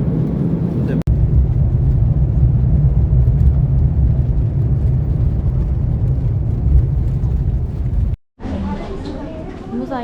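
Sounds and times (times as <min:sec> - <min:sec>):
jet engine rumble in cabin: 0:00.0 - 0:08.2.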